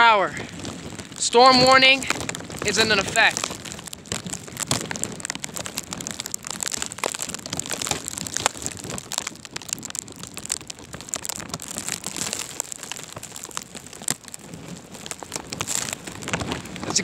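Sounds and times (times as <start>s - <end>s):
blizzard wind rushing: 0.0s - 17.0s
ice pellets ticking on microphone: 0.0s - 17.0s.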